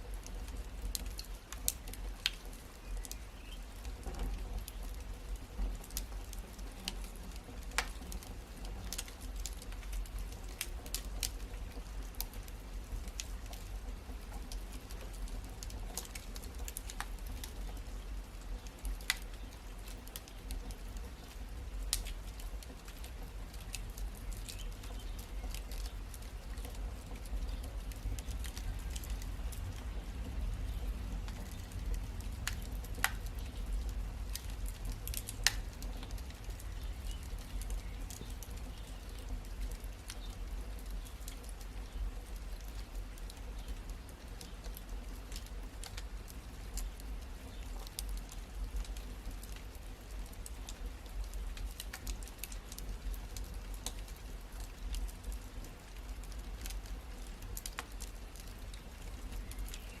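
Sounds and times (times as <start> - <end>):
low rumble of fire: 0.0 - 60.0
wood fire popping and snapping: 0.0 - 60.0.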